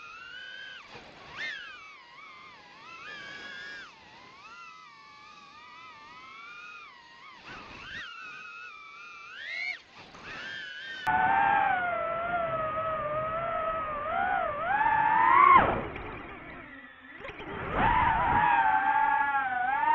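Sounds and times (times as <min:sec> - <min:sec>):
drone propellers whining: 0:00.0 - 0:19.9.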